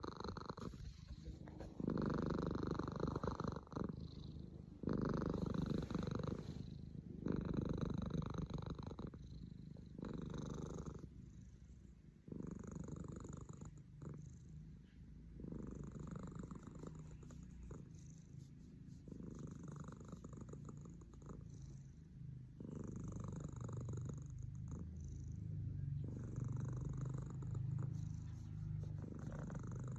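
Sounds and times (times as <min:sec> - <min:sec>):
cat snoring: 0:00.0 - 0:29.9.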